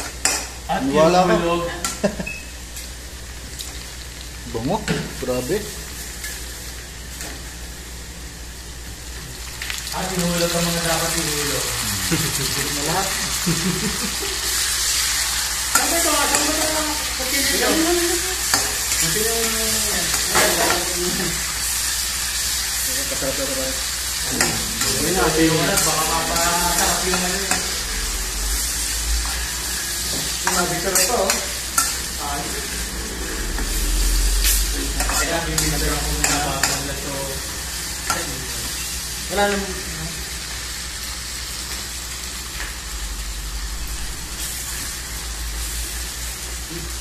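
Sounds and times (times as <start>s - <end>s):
vegetables sizzling in a wok: 0.0s - 47.0s.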